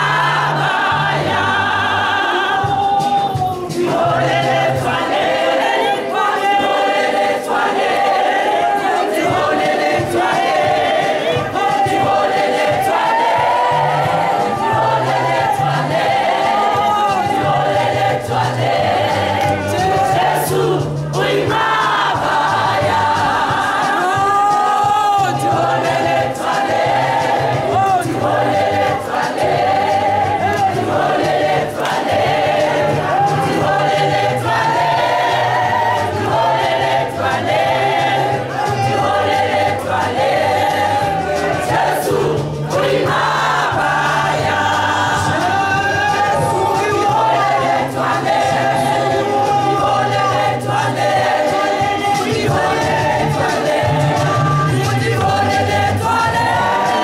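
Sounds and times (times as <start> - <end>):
choir singing gospel song: 0.0 - 57.0.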